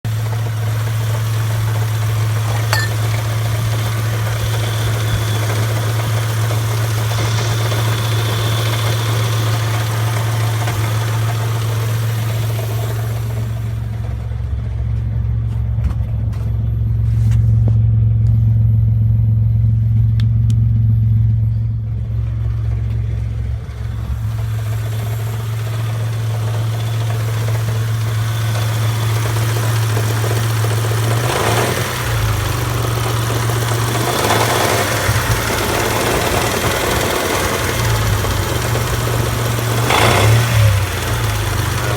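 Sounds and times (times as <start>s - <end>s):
engine knocking: 0.0s - 16.3s, 21.5s - 41.9s
car engine idling: 0.0s - 41.9s.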